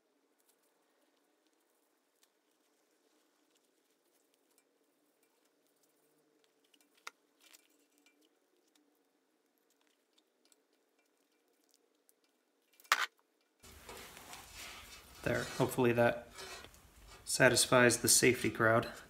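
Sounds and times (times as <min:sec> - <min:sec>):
electrical tape rustling and clicking: 0:00.3 - 0:17.3.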